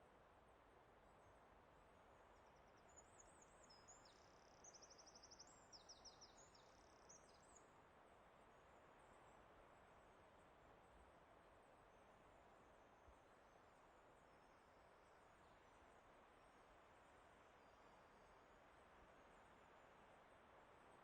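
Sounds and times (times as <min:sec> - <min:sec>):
forest background rush: 0:00.0 - 0:21.0.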